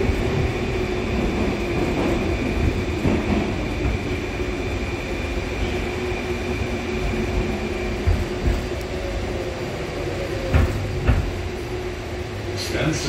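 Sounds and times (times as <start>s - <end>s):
metro train running rumble: 0.0s - 13.0s.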